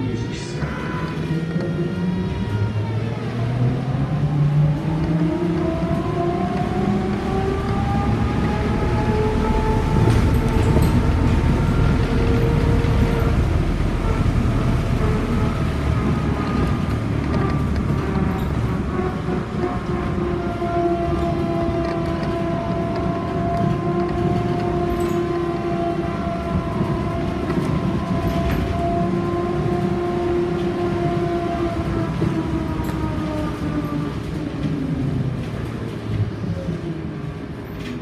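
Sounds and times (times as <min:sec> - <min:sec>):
road and body rumble: 0:00.0 - 0:38.0.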